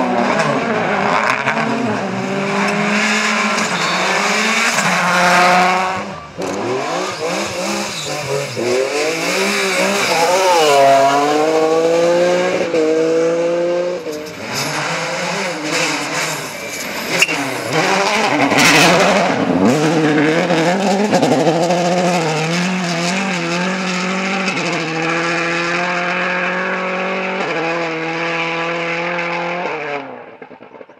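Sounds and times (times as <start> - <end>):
rally car engine revving: 0.0 - 30.9.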